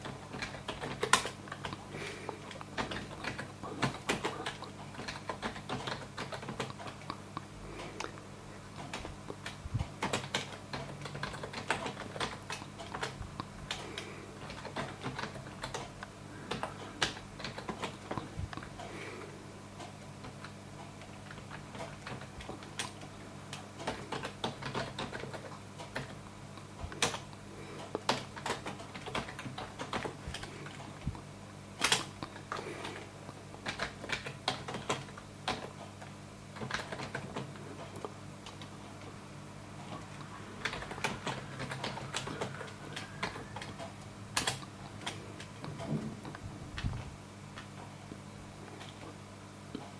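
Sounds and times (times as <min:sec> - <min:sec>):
computer keyboard typing: 0:00.0 - 0:19.1, 0:19.8 - 0:31.0, 0:31.8 - 0:39.0, 0:39.8 - 0:46.4
steady low hum: 0:00.0 - 0:49.9.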